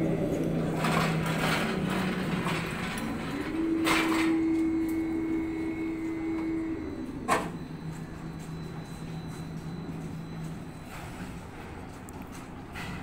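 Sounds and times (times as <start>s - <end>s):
crane machinery humming: 0.0s - 13.0s.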